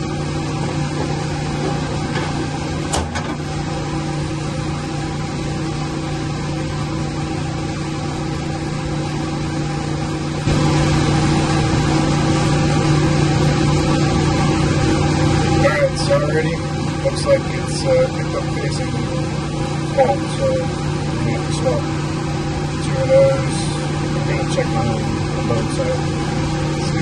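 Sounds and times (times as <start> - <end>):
low hum: 0.0 - 27.0
motors running: 0.0 - 27.0.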